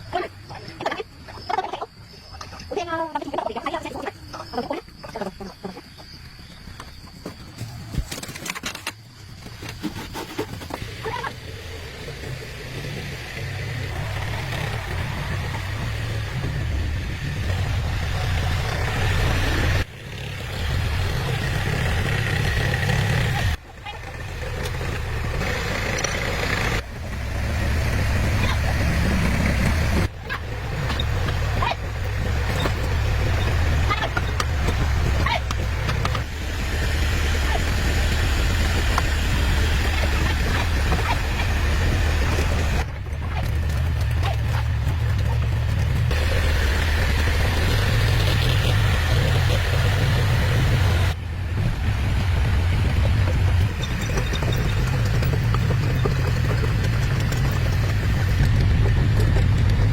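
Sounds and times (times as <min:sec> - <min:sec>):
diesel engine rumbling: 0:10.5 - 0:59.9.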